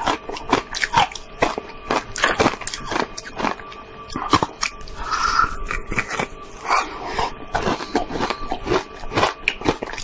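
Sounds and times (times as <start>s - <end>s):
teeth crunching ice: 0.0s - 10.0s.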